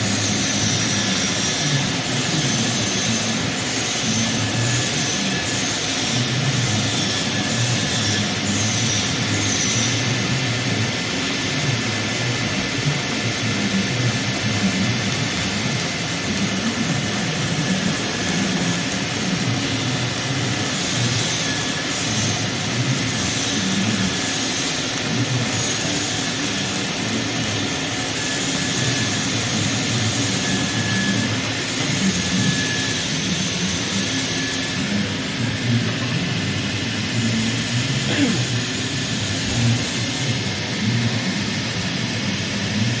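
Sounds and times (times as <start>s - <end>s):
welding arc hiss: 0.0s - 43.0s
welding machine noise: 0.0s - 43.0s.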